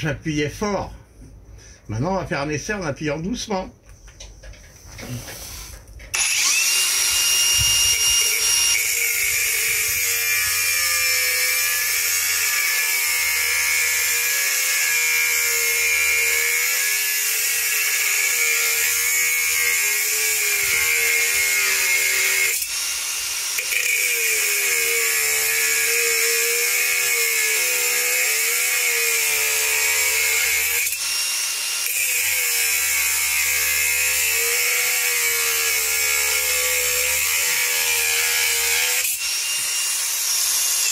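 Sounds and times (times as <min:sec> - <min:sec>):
angle grinder cutting: 0:05.1 - 0:40.9.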